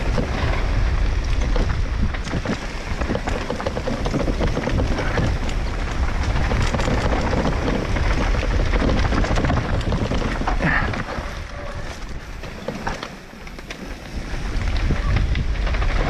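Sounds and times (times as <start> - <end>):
bike tyres on trail: 0.0 - 16.0
wind rumbling on microphone: 0.0 - 16.0.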